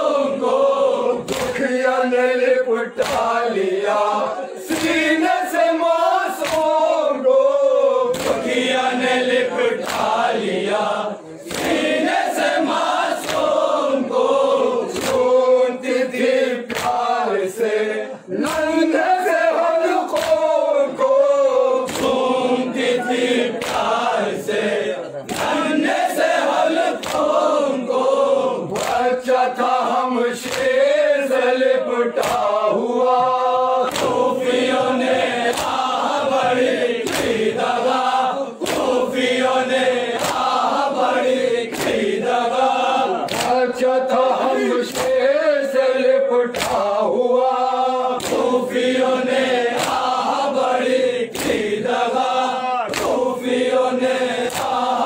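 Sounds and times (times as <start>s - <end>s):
chest slaps in a steady beat: 0.0s - 55.0s
men chanting together: 0.0s - 55.0s.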